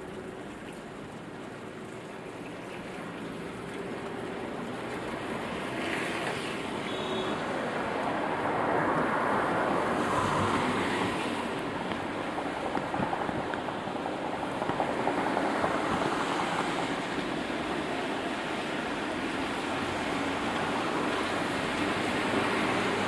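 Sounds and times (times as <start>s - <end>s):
rain: 0.0s - 23.0s
tyres hissing on wet road: 1.7s - 23.0s.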